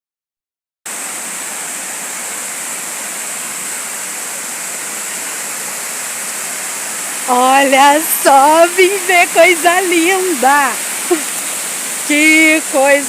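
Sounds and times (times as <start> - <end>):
water rushing: 0.9 - 13.0.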